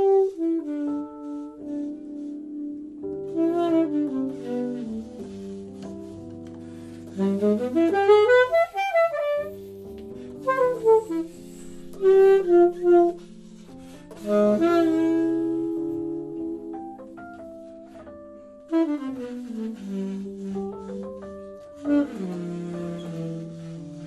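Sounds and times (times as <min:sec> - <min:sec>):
saxophone jazz duet: 0:00.0 - 0:24.0.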